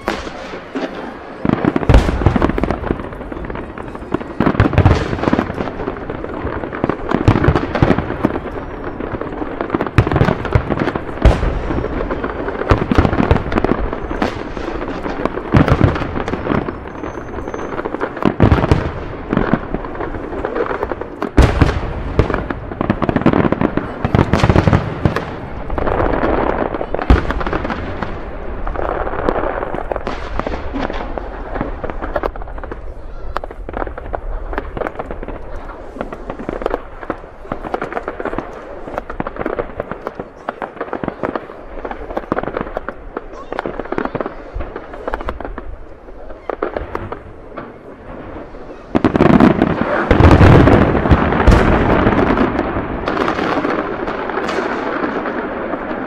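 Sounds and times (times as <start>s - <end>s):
firework shells booming: 0.0s - 56.0s
fireworks crackling and popping: 0.0s - 56.0s.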